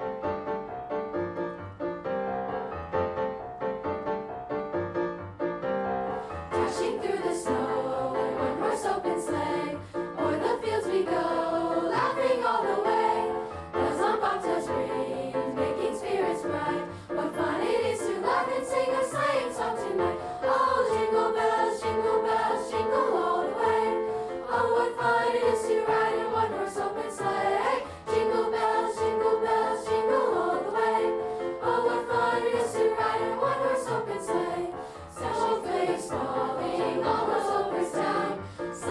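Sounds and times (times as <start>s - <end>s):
children's chorus singing: 6.5s - 38.9s.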